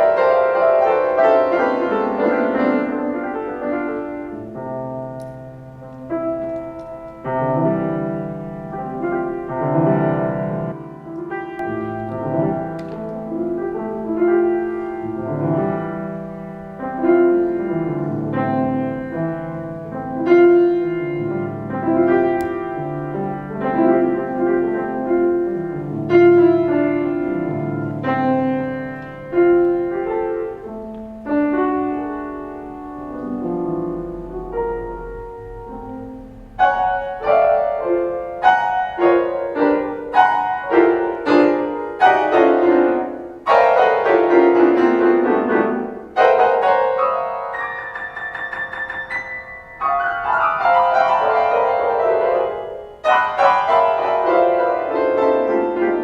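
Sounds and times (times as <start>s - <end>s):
slow piano chords: 0.0s - 56.0s.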